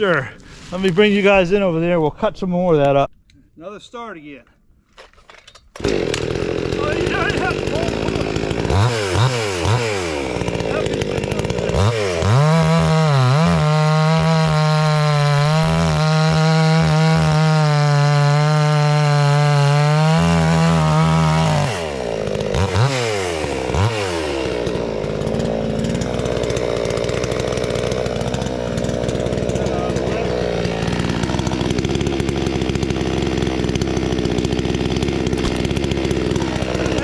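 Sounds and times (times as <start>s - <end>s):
chainsaw revving and idling: 5.8s - 37.0s.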